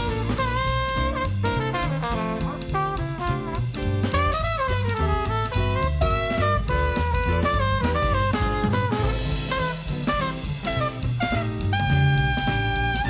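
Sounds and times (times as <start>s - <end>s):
drum kit: 0.0s - 13.0s
horn solo: 0.0s - 13.0s
walking bass line: 0.0s - 13.0s.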